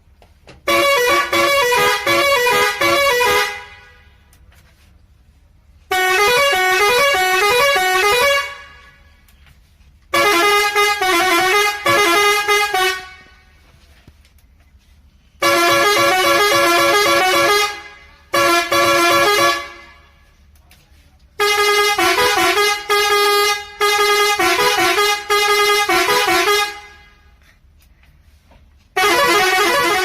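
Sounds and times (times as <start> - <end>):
musical truck horn: 0.5 - 4.9, 5.8 - 9.2, 10.1 - 13.8, 14.8 - 20.4, 21.4 - 30.0.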